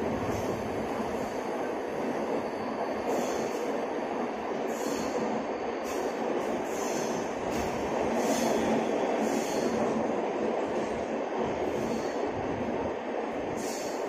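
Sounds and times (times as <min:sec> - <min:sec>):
train rushing rumble: 0:00.0 - 0:14.0.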